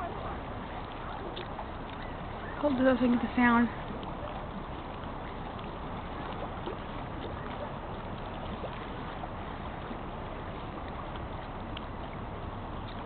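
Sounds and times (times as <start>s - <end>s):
choppy lake water: 0.0s - 13.0s
wind: 0.0s - 13.0s.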